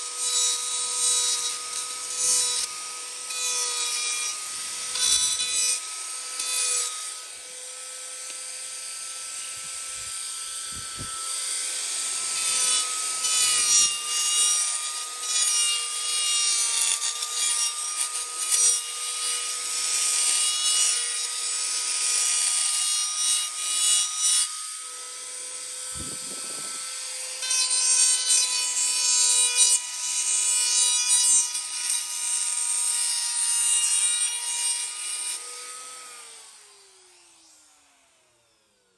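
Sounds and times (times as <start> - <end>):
tool rasping wood: 0.0 - 36.2
power tool motor whine: 0.0 - 38.9.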